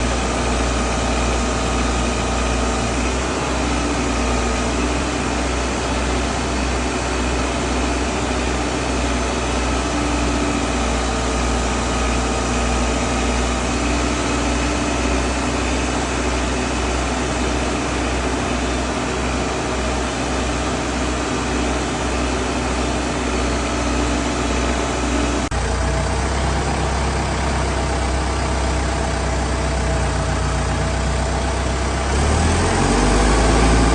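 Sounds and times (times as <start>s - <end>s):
backhoe loader engine running: 0.0s - 33.9s.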